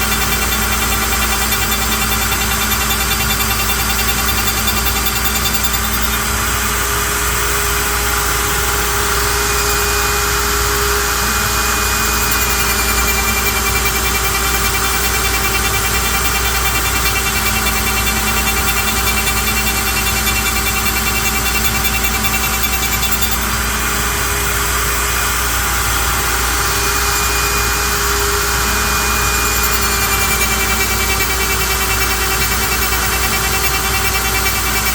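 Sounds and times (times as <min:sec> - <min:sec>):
router spindle whining: 0:00.0 - 0:34.9
shop vacuum running: 0:05.4 - 0:34.9.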